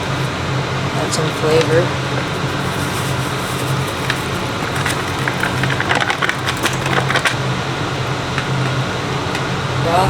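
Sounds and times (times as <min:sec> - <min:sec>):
kitchen fan humming: 0:00.0 - 0:10.0.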